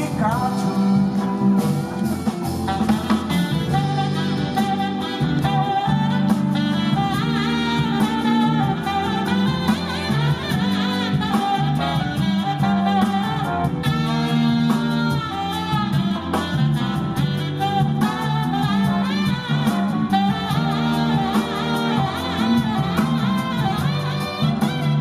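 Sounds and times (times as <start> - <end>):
jazz horn phrases: 0.0 - 25.0
swinging drum kit: 0.0 - 25.0.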